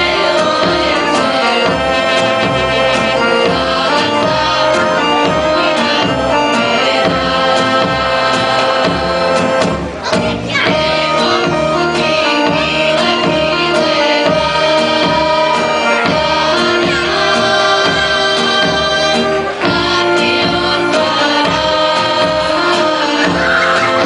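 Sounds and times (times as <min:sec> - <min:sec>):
folk instrumental accompaniment: 0:00.0 - 0:24.0
women singing together: 0:00.0 - 0:24.0.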